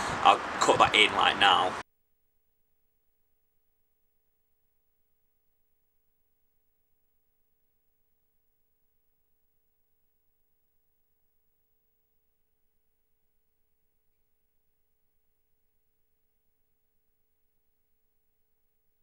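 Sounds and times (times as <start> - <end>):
faint steady tone and hum: 3.6 - 19.0.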